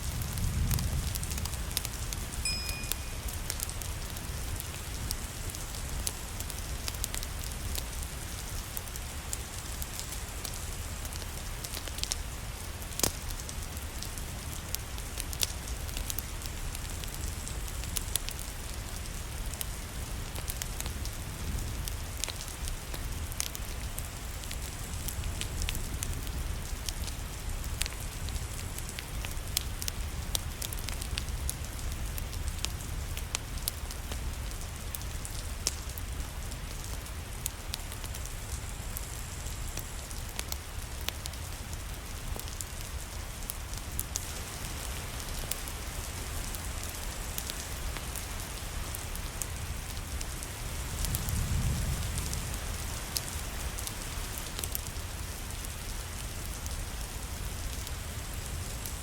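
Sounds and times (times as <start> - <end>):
rain falling: 0.0 - 59.0
wood fire crackling: 0.0 - 59.0.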